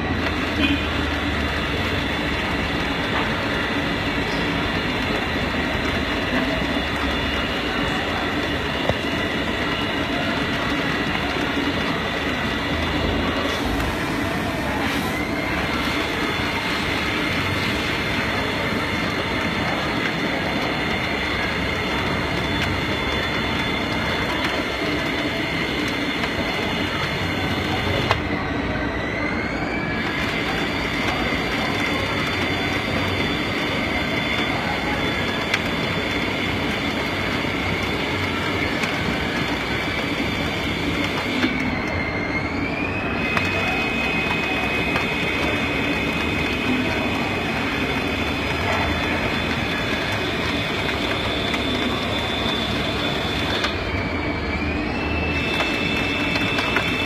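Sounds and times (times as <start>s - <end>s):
high machine whine: 0.0s - 57.0s
lathe machining noise: 0.0s - 57.0s.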